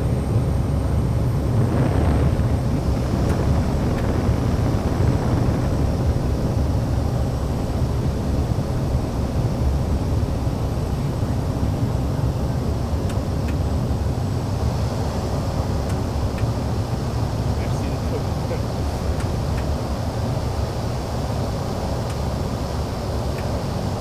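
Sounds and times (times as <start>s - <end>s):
turboprop engine drone: 0.0s - 24.0s.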